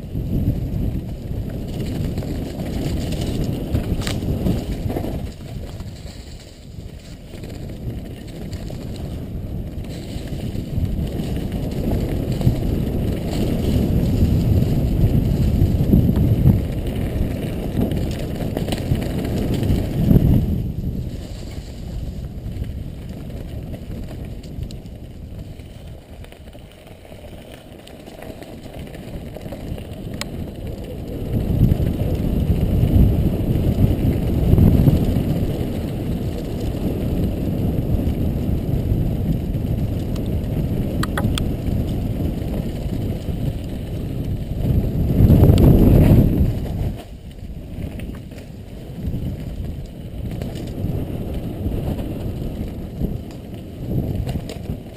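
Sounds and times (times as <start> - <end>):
bike tyres on loose dirt: 0.0 - 54.9
wind rushing over microphone: 0.0 - 54.9.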